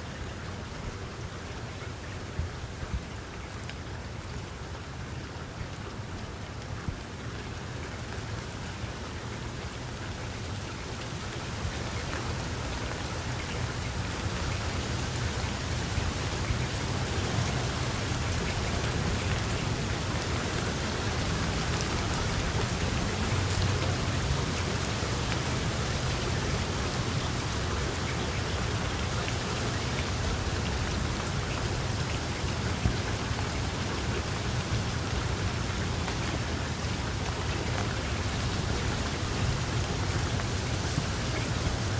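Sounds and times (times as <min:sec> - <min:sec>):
steady rain pattering: 0:00.0 - 0:41.9.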